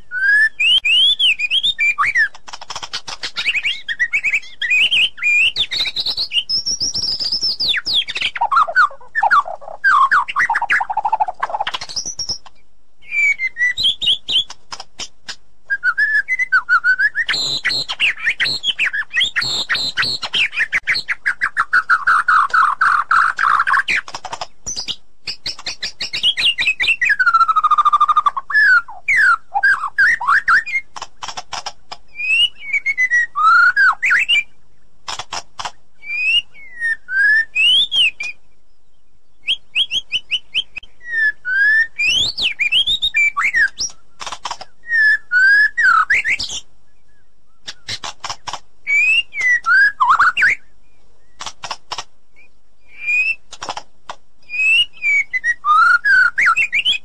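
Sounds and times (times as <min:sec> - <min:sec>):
bird singing whistles and chatters: 0:00.0 - 0:14.6, 0:15.7 - 0:31.4, 0:32.1 - 0:34.6, 0:36.0 - 0:51.5, 0:52.4 - 0:53.5, 0:54.4 - 0:57.0.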